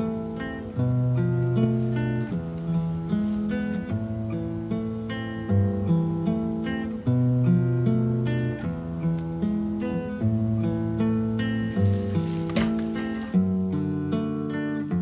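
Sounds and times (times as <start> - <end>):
acoustic guitar plucked chords: 0.0 - 15.0.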